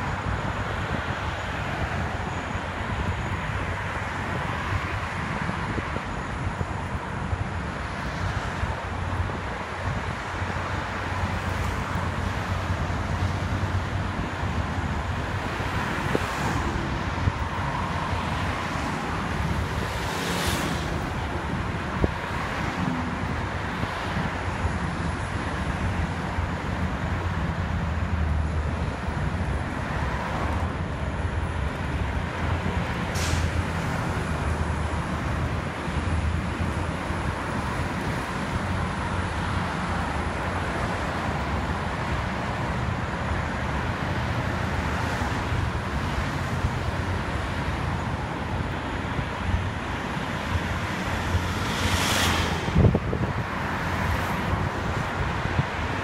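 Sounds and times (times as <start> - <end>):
road traffic rumble: 0.0 - 56.0
vehicles passing close: 0.0 - 56.0.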